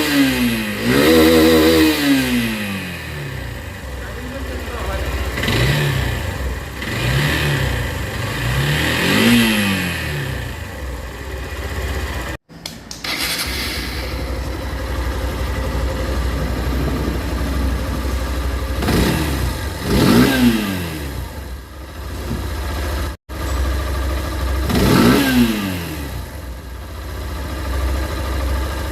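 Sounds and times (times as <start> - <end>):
three-wheeler engine revving: 0.0 - 28.9.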